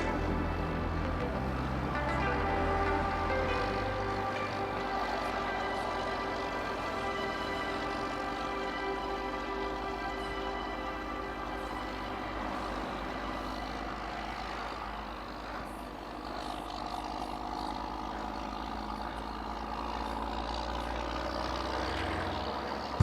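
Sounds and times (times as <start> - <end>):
heavy vehicle engine idling: 0.0 - 23.0.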